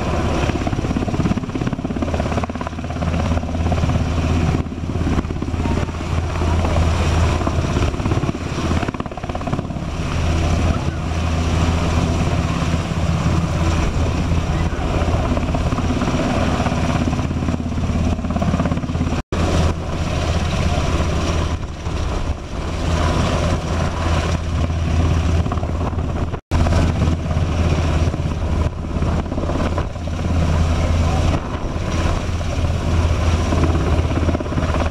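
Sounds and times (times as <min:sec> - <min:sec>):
helicopter rotor and turbine drone: 0:00.0 - 0:34.9.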